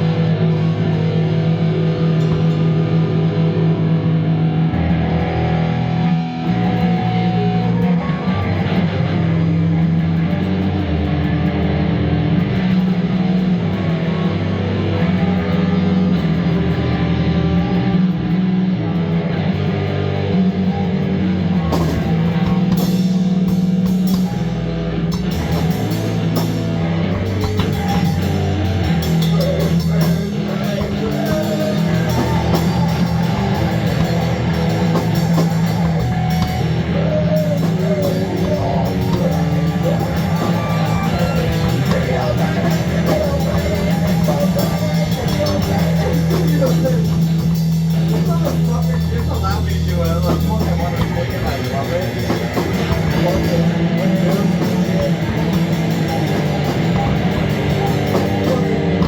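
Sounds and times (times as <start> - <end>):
drums: 0.0 - 59.0
loud rock music with guitar: 0.0 - 59.0.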